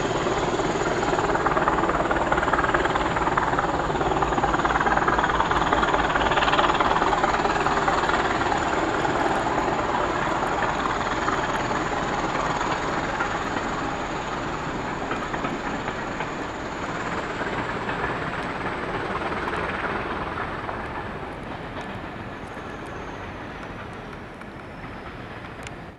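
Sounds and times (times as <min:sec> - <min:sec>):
steam train wheels on rails: 0:00.0 - 0:25.9.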